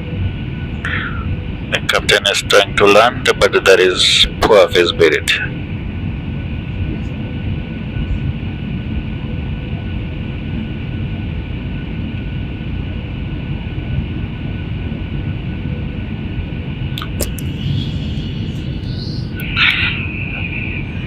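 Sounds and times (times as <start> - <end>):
airliner cabin engine rumble: 0.0 - 21.0
steady whining tones: 0.0 - 21.0.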